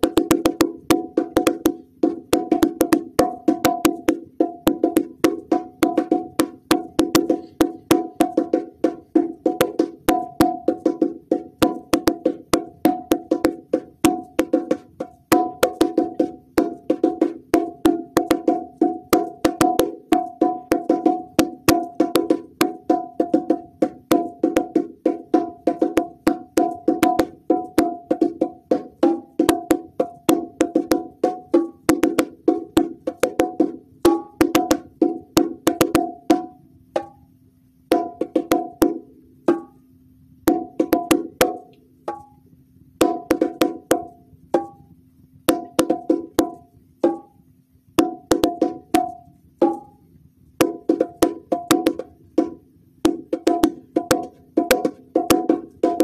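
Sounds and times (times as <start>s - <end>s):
bongo drums: 0.0s - 56.0s.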